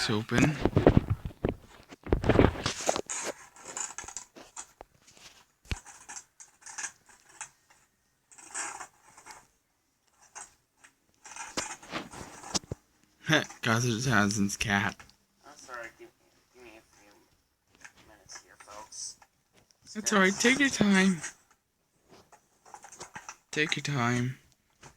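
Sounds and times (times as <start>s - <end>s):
cardboard and plastic rustling: 0.3s - 13.7s, 16.9s - 23.9s.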